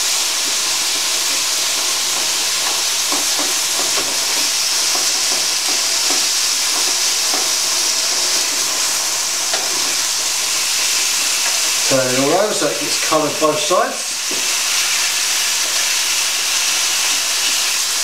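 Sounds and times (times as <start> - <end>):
chicken sizzling in frying pan: 0.0 - 18.0.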